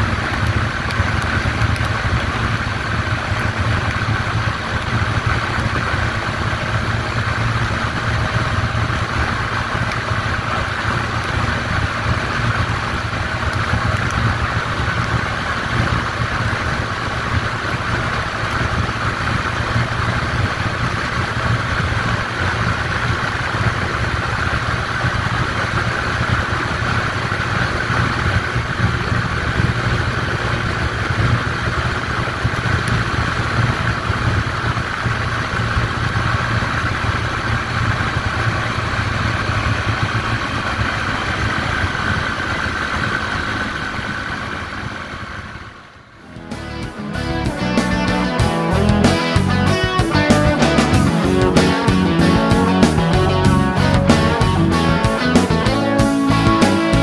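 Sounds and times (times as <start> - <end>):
motorcycle engine cruising: 0.0 - 57.0
road noise: 0.0 - 57.0.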